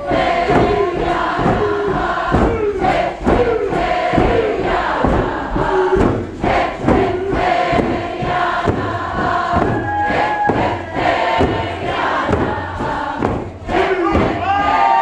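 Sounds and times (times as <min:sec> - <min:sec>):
group singing in chorus: 0:00.0 - 0:15.0
steady drum beat: 0:00.0 - 0:15.0.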